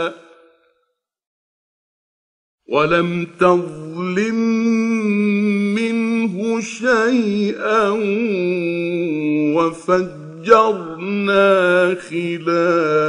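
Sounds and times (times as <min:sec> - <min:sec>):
man chanting melodically: 0:00.0 - 0:00.8, 0:02.7 - 0:13.0.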